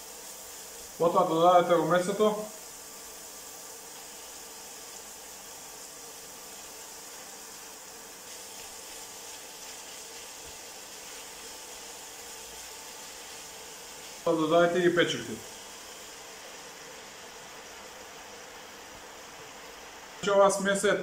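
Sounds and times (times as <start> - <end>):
onions and meat frying in a wok: 0.0 - 21.0.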